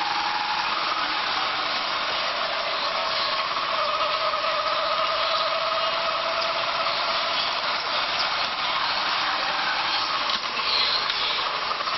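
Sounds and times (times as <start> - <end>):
moving vehicle engine noise: 0.0 - 11.9
whine: 0.0 - 11.9.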